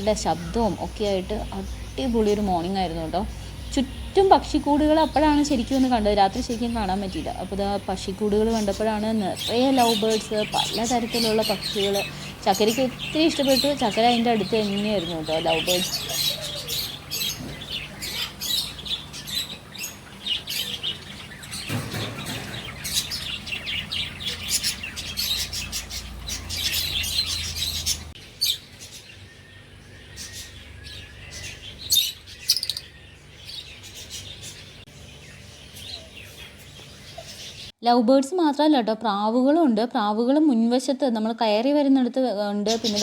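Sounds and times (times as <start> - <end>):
lovebirds chirping and chattering: 0.0 - 37.8, 42.4 - 43.0.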